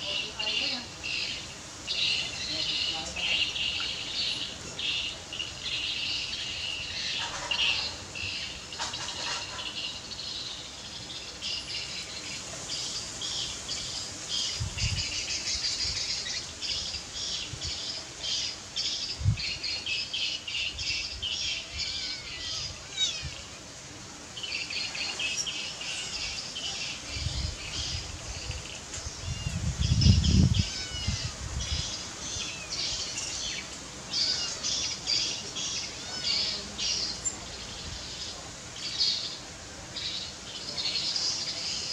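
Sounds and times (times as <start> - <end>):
small birds chirping: 0.0 - 23.7, 24.3 - 41.9.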